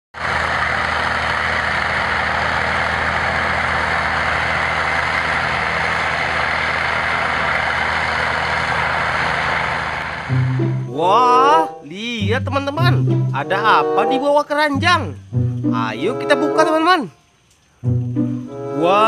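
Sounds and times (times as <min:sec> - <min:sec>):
bulldozer engine running: 0:00.2 - 0:19.0.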